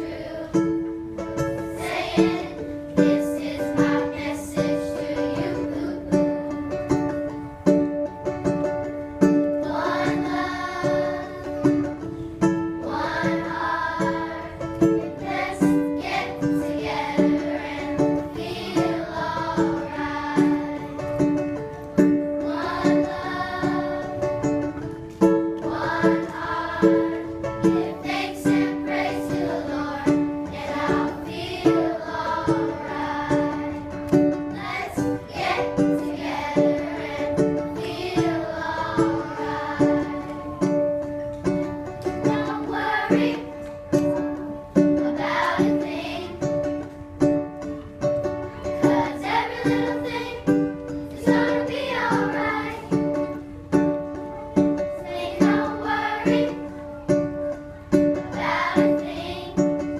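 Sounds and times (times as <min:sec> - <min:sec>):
acoustic guitar strumming: 0:00.0 - 0:59.9
children's choir singing: 0:00.0 - 0:59.9.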